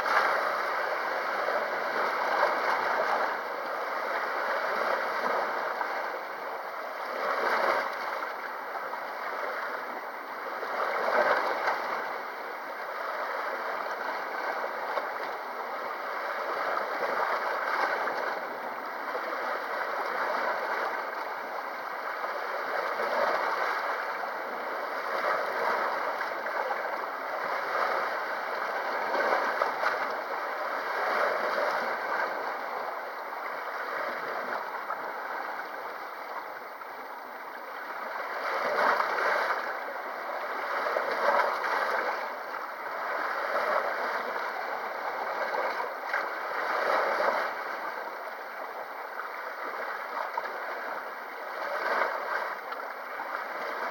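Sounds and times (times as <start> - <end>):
small waves washing on shore: 0.0 - 53.9.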